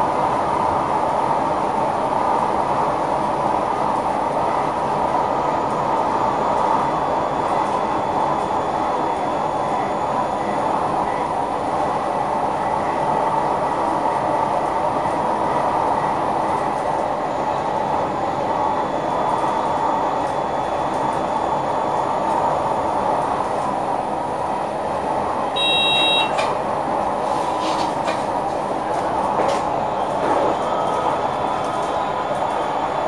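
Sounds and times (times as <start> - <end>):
electric train running noise: 0.0 - 33.0.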